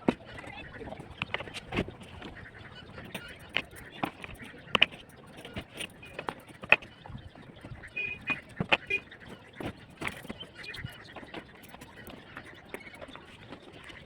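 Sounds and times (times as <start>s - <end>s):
sharp knocks and clicks: 0.0s - 12.8s.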